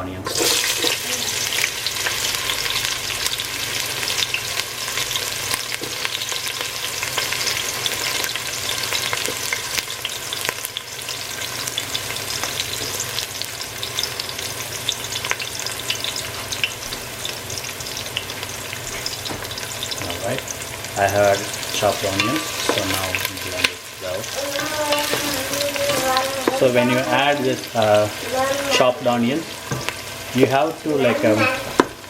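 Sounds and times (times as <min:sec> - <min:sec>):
onions sizzling in hot oil: 0:00.2 - 0:32.0.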